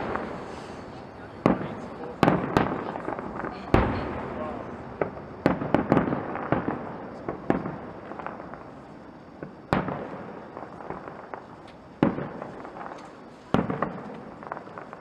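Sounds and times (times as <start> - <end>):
fireworks bangs: 0.0 - 15.0
small firework pops: 0.0 - 15.0.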